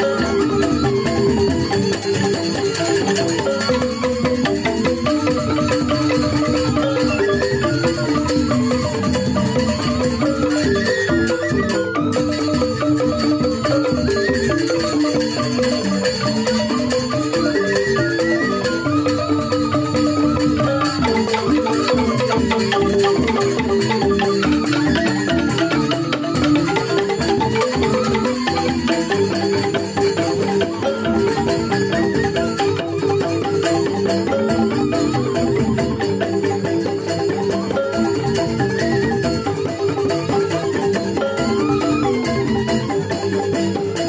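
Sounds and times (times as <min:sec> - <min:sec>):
drum strokes: 0:00.0 - 0:43.7
bamboo xylophones ringing: 0:00.0 - 0:44.0.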